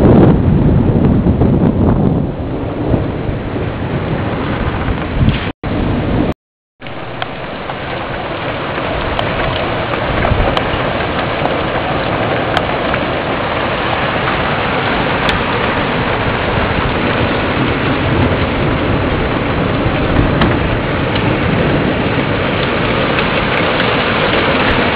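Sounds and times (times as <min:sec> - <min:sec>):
heavy rain pouring: 0:00.0 - 0:24.9.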